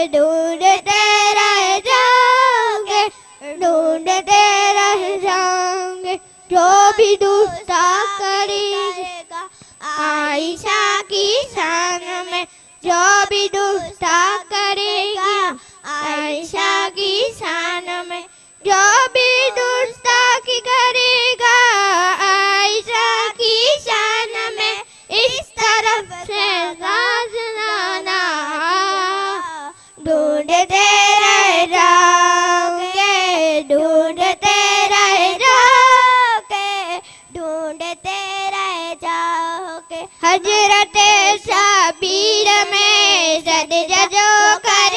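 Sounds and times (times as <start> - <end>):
girls singing into a microphone: 0.0 - 44.9.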